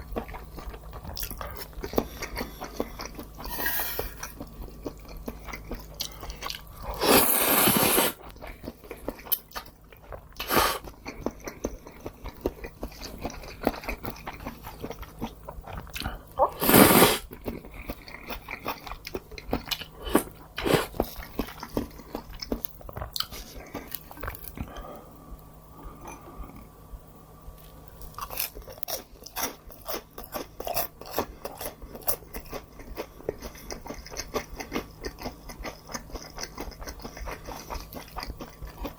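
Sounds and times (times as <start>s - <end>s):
person chewing and crunching food: 0.0s - 26.8s, 27.5s - 38.9s.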